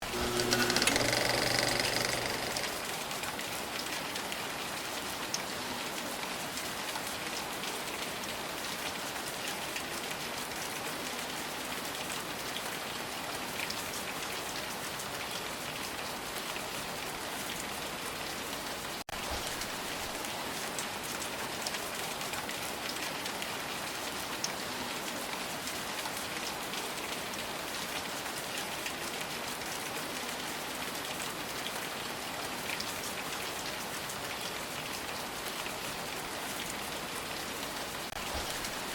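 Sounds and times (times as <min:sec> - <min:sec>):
steady rain falling: 0:01.0 - 0:38.9.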